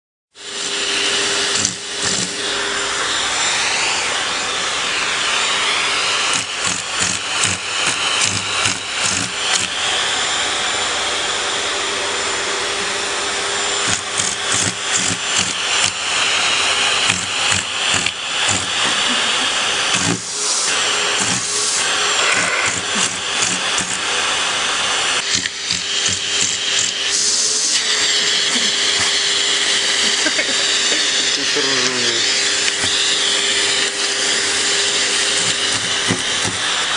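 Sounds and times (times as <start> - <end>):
vacuum cleaner running: 0.4 - 36.9.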